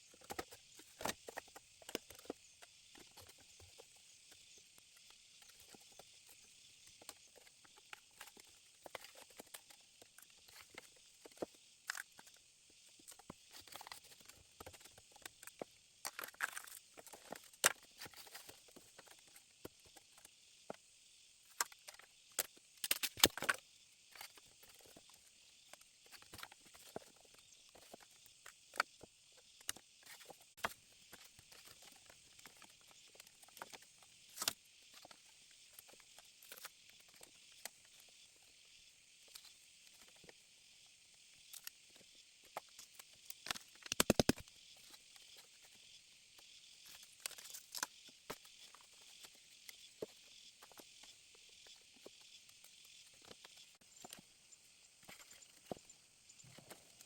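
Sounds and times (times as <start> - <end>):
insects hissing: 0.0 - 57.0.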